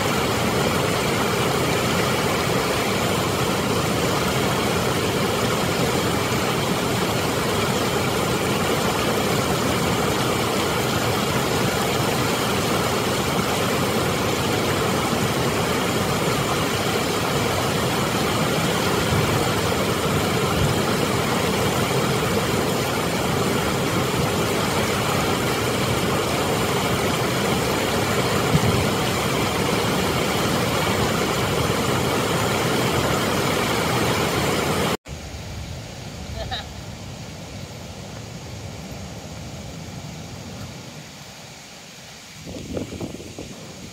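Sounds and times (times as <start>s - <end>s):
water rushing over dam spillway: 0.0s - 43.9s.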